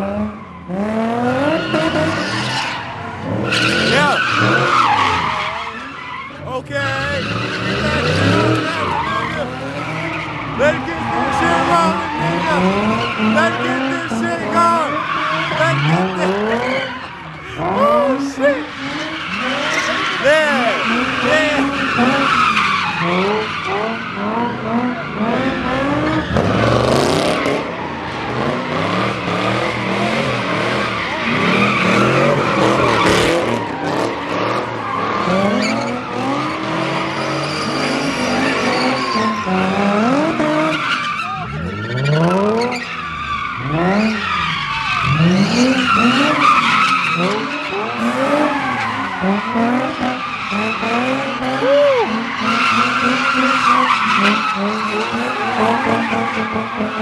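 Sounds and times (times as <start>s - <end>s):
car engines revving: 0.0s - 57.0s
tyres squealing and skidding: 0.0s - 57.0s.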